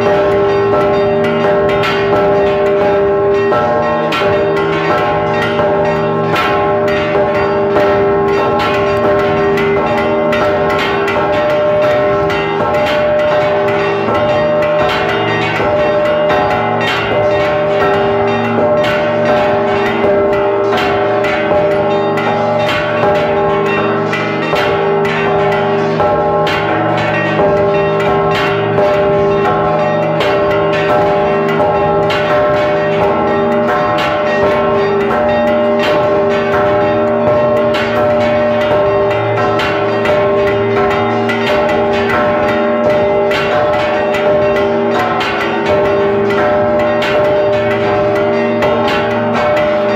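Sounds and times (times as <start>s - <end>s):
church bells ringing rapidly: 0.0s - 49.9s.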